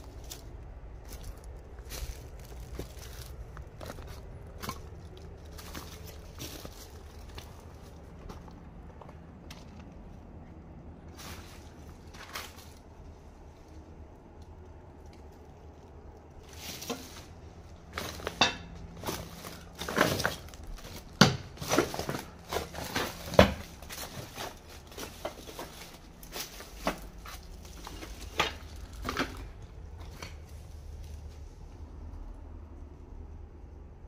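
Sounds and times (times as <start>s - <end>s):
footsteps crunching on rubble: 0.0s - 14.0s, 16.2s - 31.6s
faint low hum: 0.0s - 34.0s.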